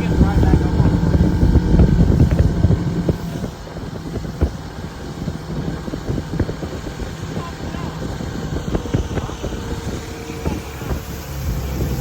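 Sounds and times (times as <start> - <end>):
outboard motor running: 0.0 - 12.0
wind on microphone: 0.0 - 12.0.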